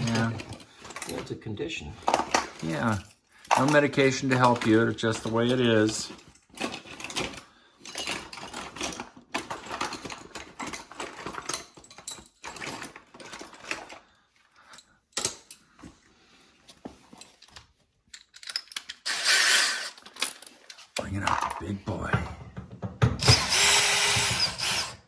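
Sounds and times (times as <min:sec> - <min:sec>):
hand tools and metal parts rattling: 0:00.0 - 0:25.0.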